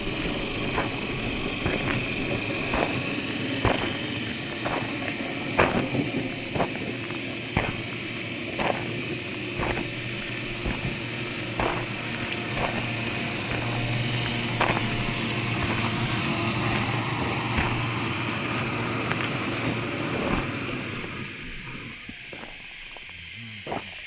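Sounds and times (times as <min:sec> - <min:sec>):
toy truck motor humming: 0:00.0 - 0:24.0.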